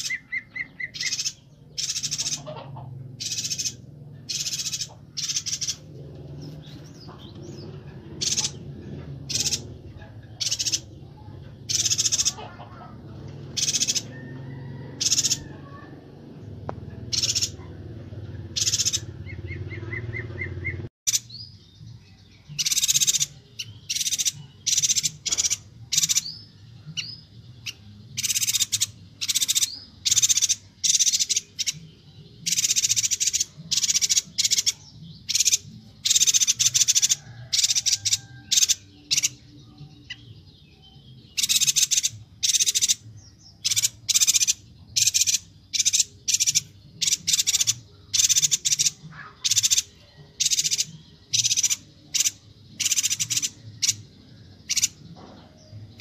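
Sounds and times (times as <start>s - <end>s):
bird high-pitched calls: 0.0s - 16.1s, 16.9s - 21.6s, 22.4s - 56.0s.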